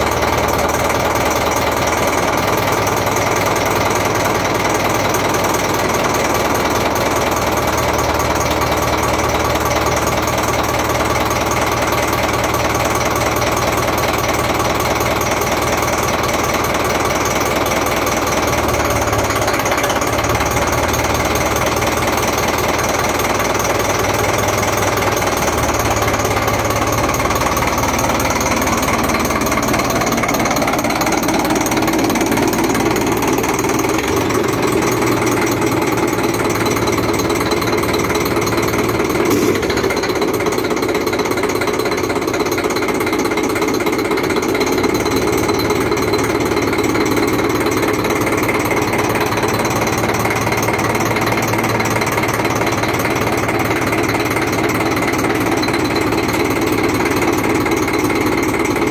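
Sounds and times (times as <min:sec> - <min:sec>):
diesel tractor engine clattering: 0:00.0 - 0:58.9.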